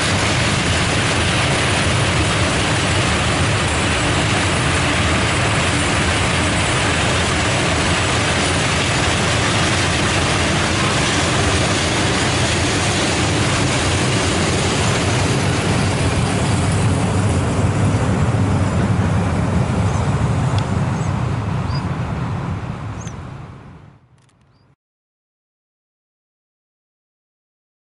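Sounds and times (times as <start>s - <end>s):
freight train rumbling past: 0.0s - 24.1s.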